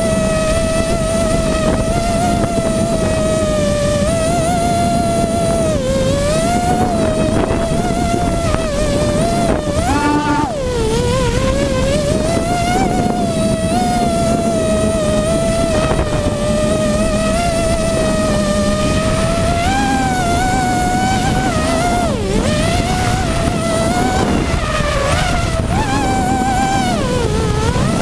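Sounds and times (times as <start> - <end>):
drone motors and propellers whining: 0.0 - 28.0
wind rushing over microphone: 0.0 - 28.0.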